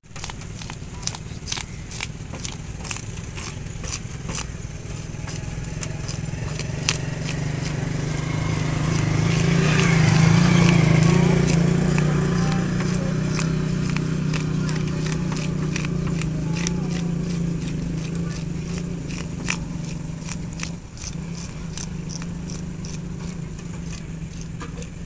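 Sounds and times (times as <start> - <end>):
blade scraping fish scales: 0.0 - 25.0
low motor hum: 0.0 - 25.0.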